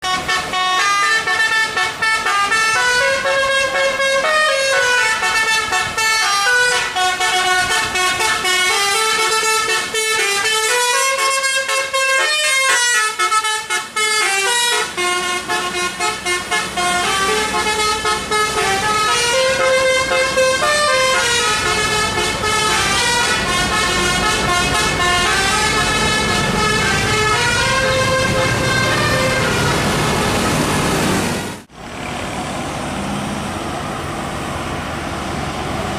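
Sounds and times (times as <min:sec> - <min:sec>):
bus musical horn playing a tune: 0:00.0 - 0:31.6
bus engine rumble: 0:00.0 - 0:35.9.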